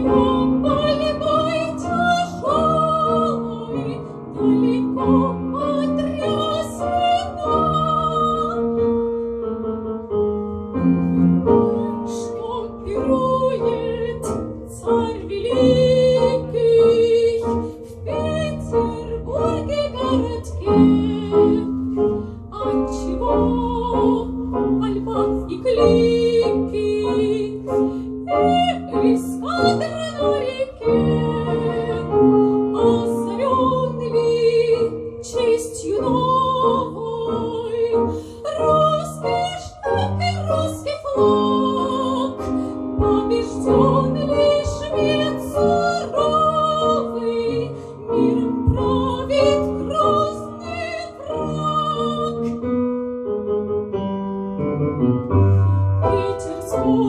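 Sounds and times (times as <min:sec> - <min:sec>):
operatic singing with vibrato: 0:00.0 - 0:08.8, 0:11.5 - 0:52.7, 0:55.9 - 0:57.0
piano accompaniment: 0:00.0 - 0:57.0.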